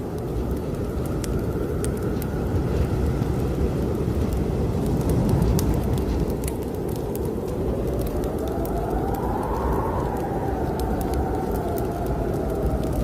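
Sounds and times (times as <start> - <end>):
howling blizzard wind: 0.0 - 13.0
wood fire crackling: 0.0 - 13.0.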